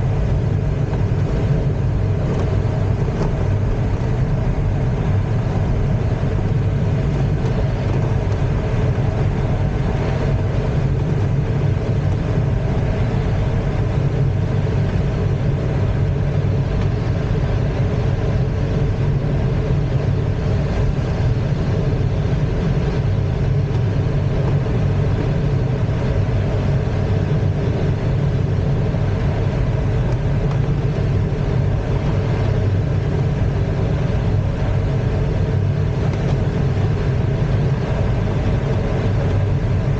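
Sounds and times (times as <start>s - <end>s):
airflow rushing over canopy: 0.0s - 39.9s
plane engine drone: 0.0s - 39.9s.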